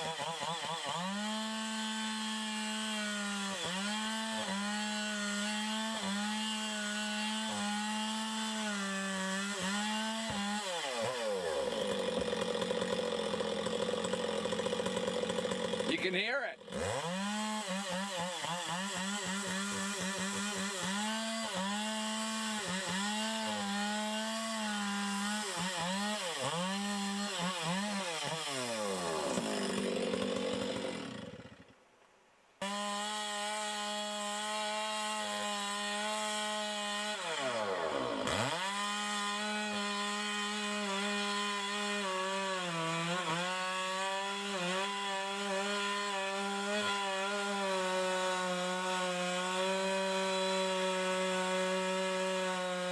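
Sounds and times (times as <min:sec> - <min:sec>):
chainsaw cutting wood: 0:00.0 - 0:31.9, 0:32.6 - 0:52.9.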